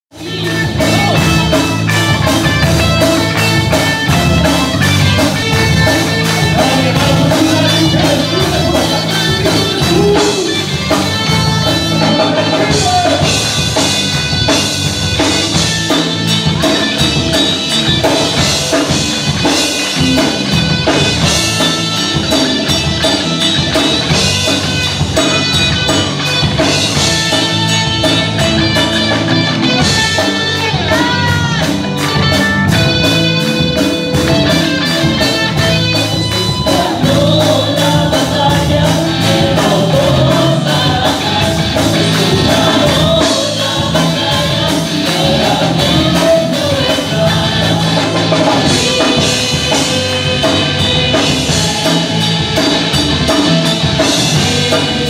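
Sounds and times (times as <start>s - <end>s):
drums: 0.0s - 55.0s
guitar: 0.0s - 55.0s
keyboard: 0.1s - 55.0s
live band playing worship music: 0.1s - 55.0s.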